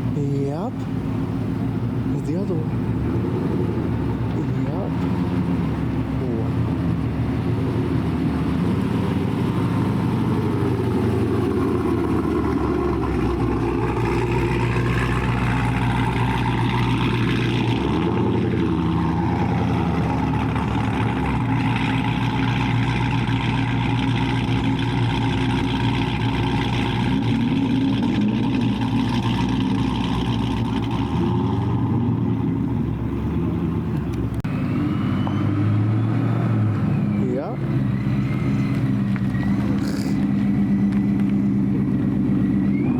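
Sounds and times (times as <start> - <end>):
car engine running: 0.0 - 35.4, 36.6 - 42.9.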